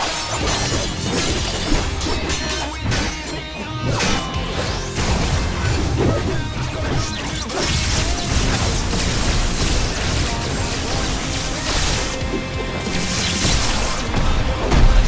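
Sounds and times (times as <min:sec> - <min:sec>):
action music: 0:00.0 - 0:15.0
fight crashes and hits: 0:00.0 - 0:15.0.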